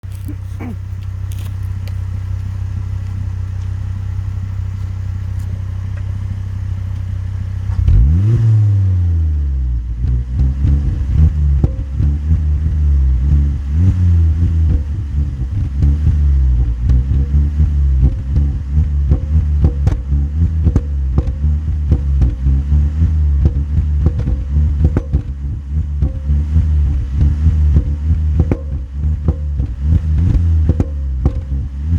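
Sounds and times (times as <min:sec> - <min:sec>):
car engine idling and revving: 0:00.0 - 0:31.9
exhaust crackles and pops: 0:00.0 - 0:31.9.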